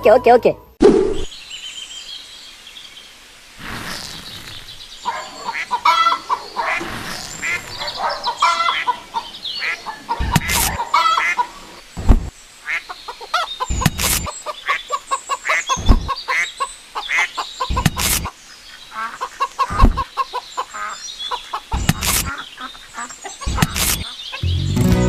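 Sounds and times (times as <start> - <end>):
birds calling: 1.1 - 25.0.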